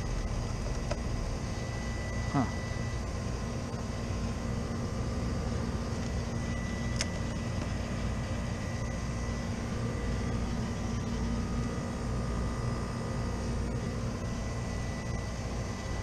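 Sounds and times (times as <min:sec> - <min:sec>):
faint steady tones: 0:00.0 - 0:16.0
refrigeration equipment humming: 0:00.0 - 0:16.0.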